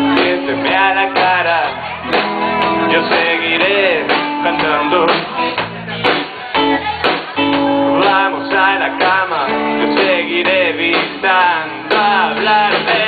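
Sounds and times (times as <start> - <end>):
rock band with strummed guitar: 0.0 - 13.0.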